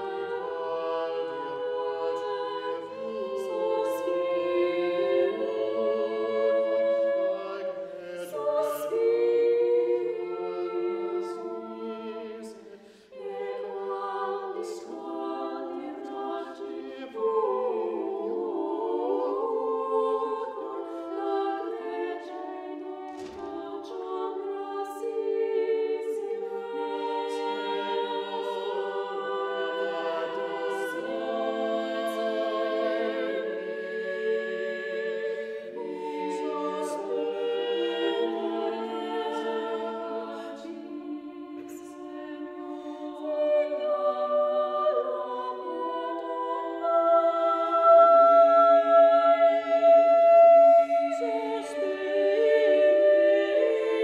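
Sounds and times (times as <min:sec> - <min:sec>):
choir singing long-held chords: 0:00.0 - 0:54.0.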